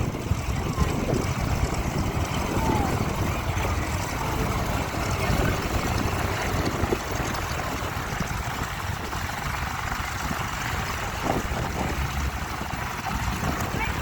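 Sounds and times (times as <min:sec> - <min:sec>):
radial aircraft engines rumbling: 0:00.0 - 0:14.0.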